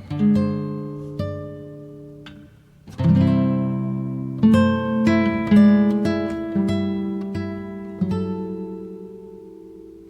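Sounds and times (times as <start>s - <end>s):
acoustic guitar plucked and strummed: 0.0s - 10.0s.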